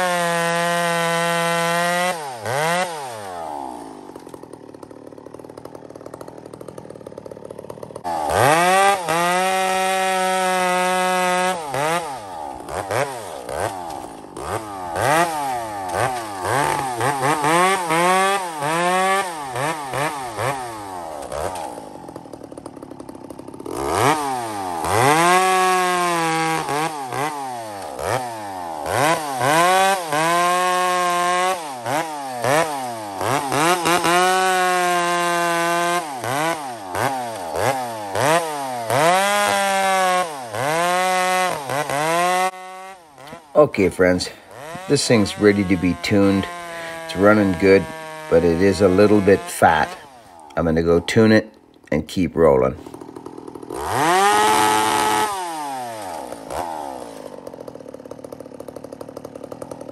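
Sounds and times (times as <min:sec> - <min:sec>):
chainsaw idling and cutting wood: 0:00.0 - 0:59.9.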